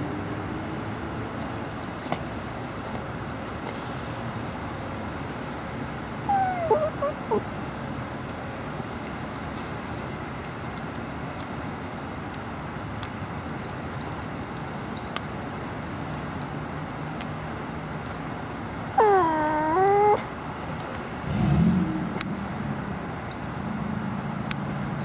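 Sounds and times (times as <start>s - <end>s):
distant road traffic: 0.0s - 25.0s.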